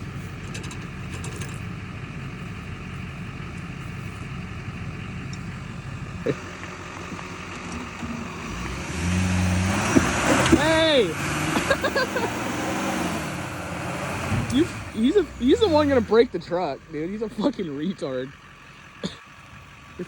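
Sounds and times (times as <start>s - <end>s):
engine running at low speed: 0.0s - 20.0s.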